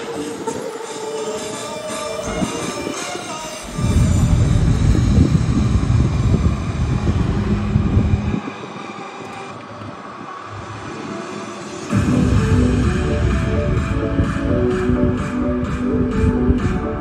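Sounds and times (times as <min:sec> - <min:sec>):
truck diesel engines rumbling: 0:01.9 - 0:17.0.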